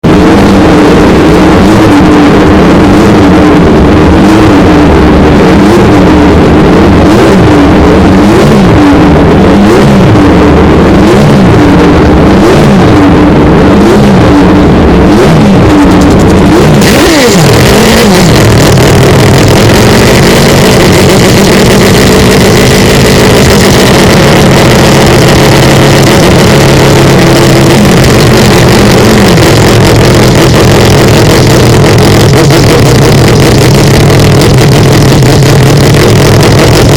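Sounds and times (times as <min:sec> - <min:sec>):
rotary engine revving: 0:00.0 - 0:36.9.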